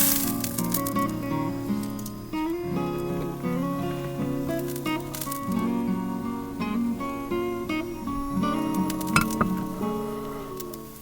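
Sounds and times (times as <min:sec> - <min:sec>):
acoustic guitar strummed and plucked: 0:00.0 - 0:11.0.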